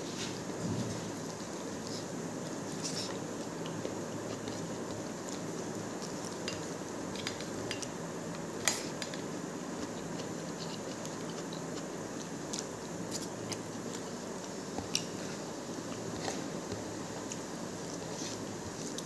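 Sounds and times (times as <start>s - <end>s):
steady background noise: 0.0s - 19.0s
fingers mixing food on a plate: 1.3s - 19.0s.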